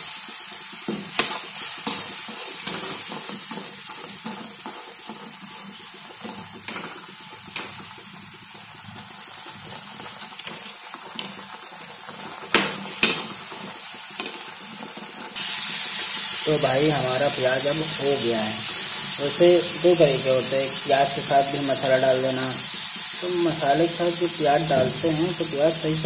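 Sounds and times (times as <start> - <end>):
onions sizzling in hot oil: 0.0 - 26.0.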